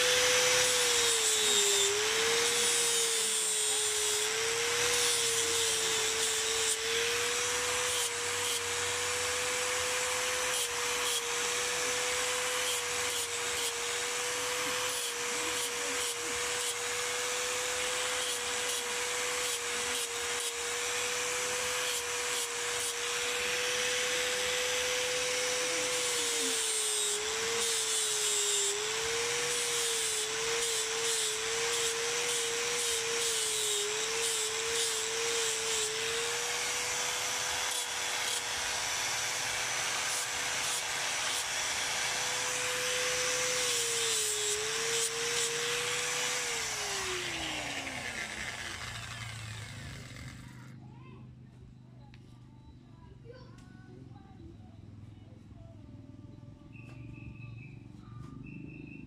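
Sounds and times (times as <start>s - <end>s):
angle grinder grinding horn: 0.0s - 50.7s.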